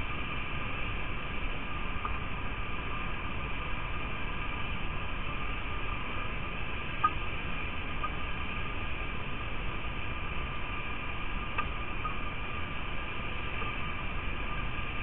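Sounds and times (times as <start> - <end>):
faint steady tones: 0.0 - 15.0.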